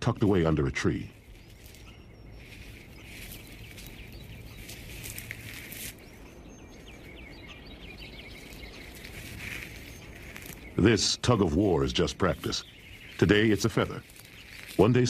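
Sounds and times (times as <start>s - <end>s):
pups scuffling and rustling: 1.2s - 10.8s, 12.2s - 15.0s.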